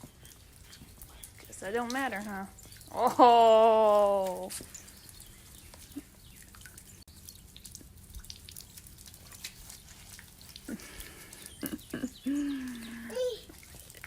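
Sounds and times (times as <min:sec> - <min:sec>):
light rain hiss: 0:00.0 - 0:14.0
water drops ticking: 0:00.0 - 0:14.0.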